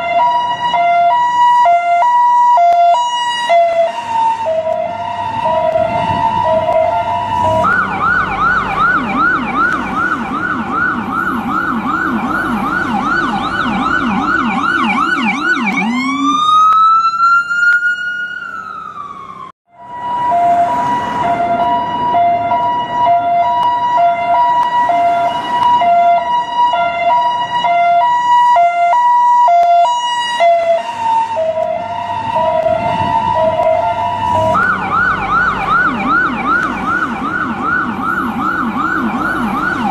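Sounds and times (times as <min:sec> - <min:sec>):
ambulance siren: 0:00.0 - 0:39.9.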